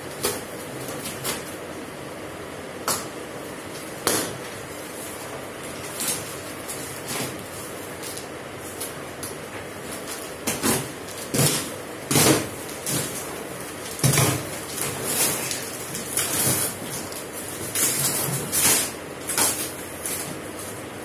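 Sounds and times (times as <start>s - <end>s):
plastic wrapping crinkling: 3.8s - 21.0s.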